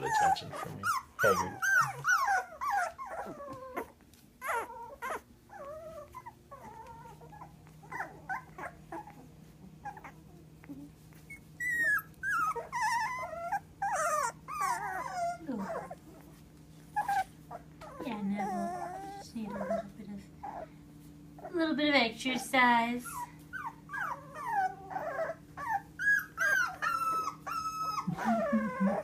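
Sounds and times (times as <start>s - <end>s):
puppies whimpering and squeaking: 0.0s - 29.0s.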